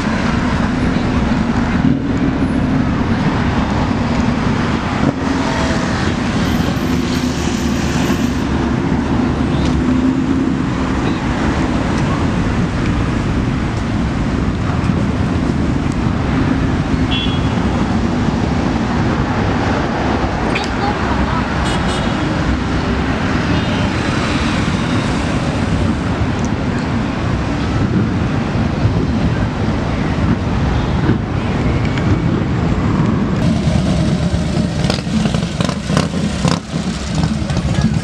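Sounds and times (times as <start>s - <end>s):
vehicle engines running: 0.0s - 38.0s.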